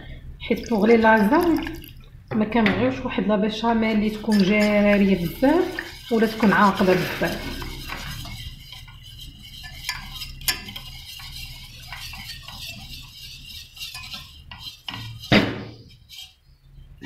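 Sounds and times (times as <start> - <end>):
low steady hum: 0.0 - 17.0
whisk scraping a metal saucepan: 0.6 - 1.9, 3.6 - 16.9.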